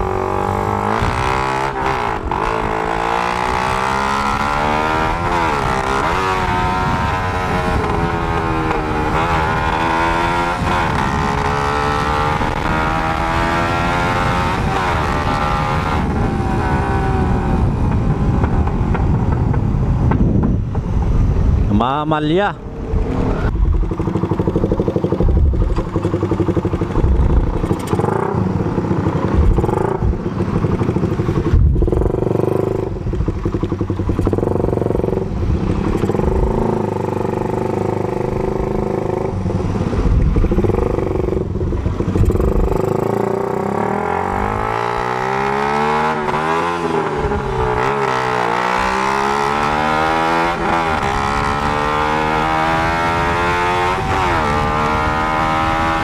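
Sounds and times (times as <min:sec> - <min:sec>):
motorcycle engine revving: 0:00.0 - 0:19.5, 0:22.7 - 0:56.0.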